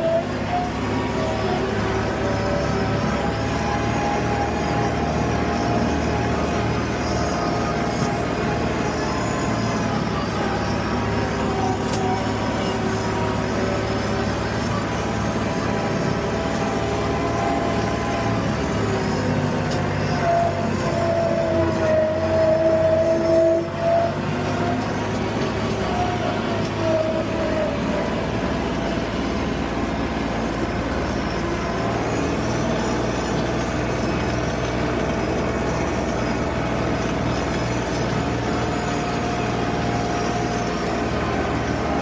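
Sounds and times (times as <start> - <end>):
tractor engine running: 0.0 - 42.0.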